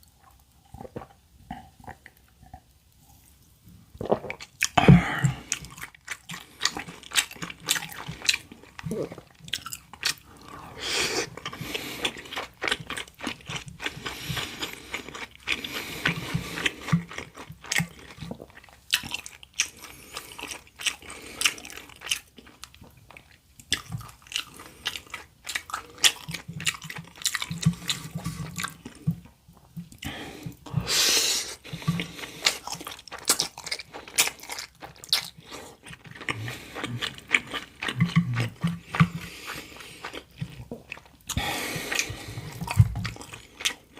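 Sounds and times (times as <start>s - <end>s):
person chewing food: 0.0s - 3.3s, 3.9s - 43.9s.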